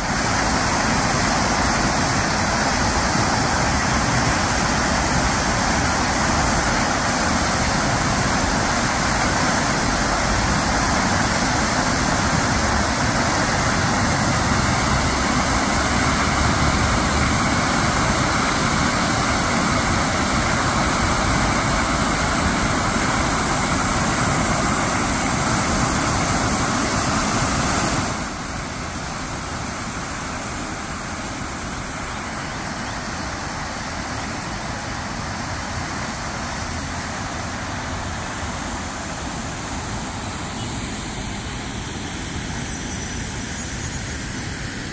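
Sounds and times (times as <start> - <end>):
fountain water splashing: 0.0 - 44.9.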